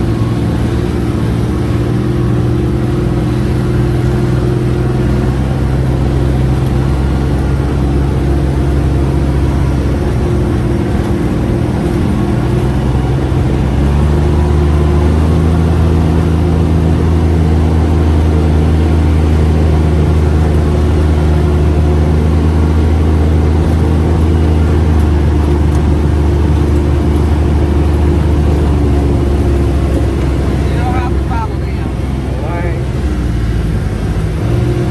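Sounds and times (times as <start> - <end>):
utility vehicle engine running: 0.0 - 34.9.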